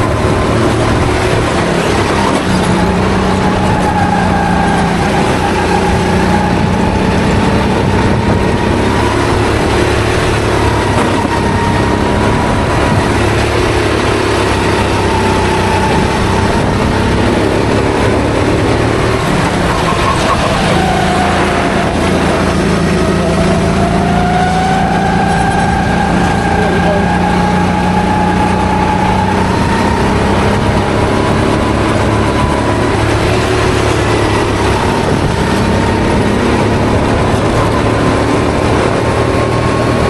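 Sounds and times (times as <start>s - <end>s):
kart engine revving: 0.0s - 40.0s
wind and road noise: 0.0s - 40.0s.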